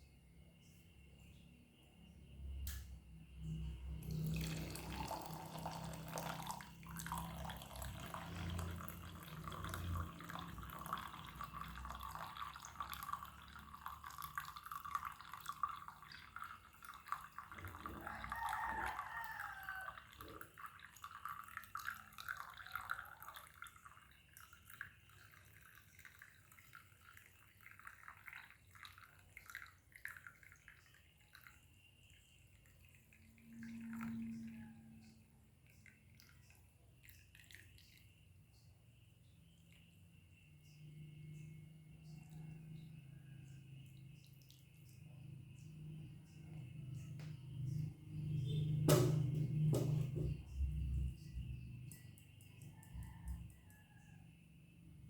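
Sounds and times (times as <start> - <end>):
water trickling and dripping: 0.0 - 54.2.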